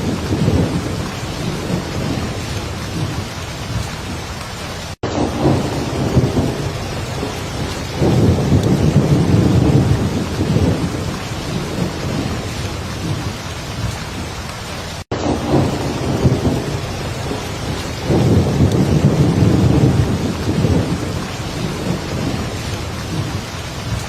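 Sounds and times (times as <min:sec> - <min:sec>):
heavy rain: 0:00.0 - 0:24.0
rolling thunder rumbles: 0:00.0 - 0:24.0.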